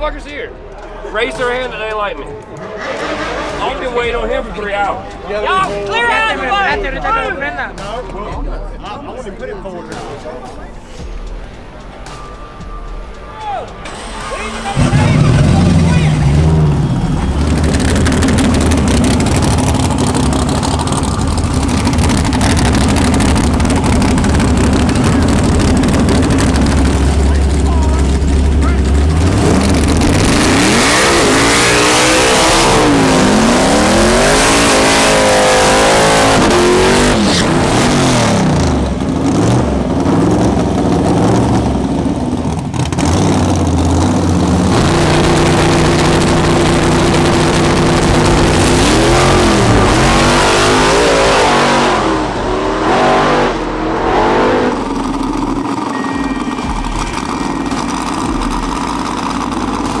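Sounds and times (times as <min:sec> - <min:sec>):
drag racing car engines revving: 0:02.5 - 0:05.2, 0:13.8 - 1:00.0.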